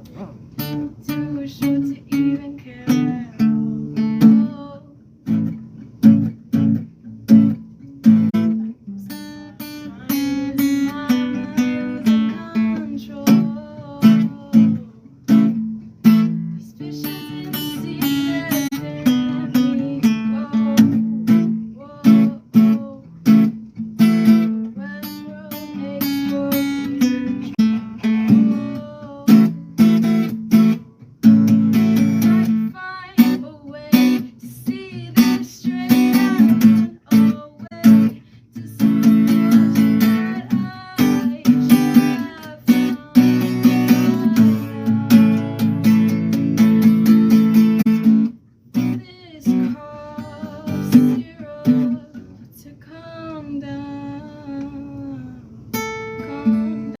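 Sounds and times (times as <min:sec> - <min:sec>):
person singing: 0:00.0 - 0:05.0, 0:08.4 - 0:15.0, 0:16.6 - 0:23.5, 0:24.3 - 0:29.6, 0:31.8 - 0:47.8, 0:48.8 - 0:57.0
acoustic guitar strumming: 0:00.0 - 0:55.0, 0:55.7 - 0:57.0.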